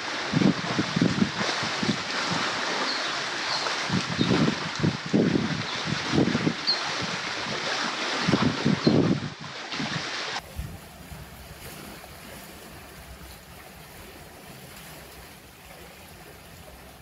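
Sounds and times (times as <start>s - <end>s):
lake waves: 0.0s - 17.0s
wind: 0.0s - 17.0s.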